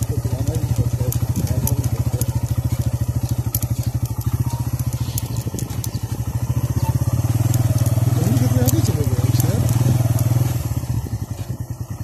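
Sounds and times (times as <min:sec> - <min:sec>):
gravel clicking under tyres: 0:00.0 - 0:12.0
motorcycle engine running: 0:00.0 - 0:12.0.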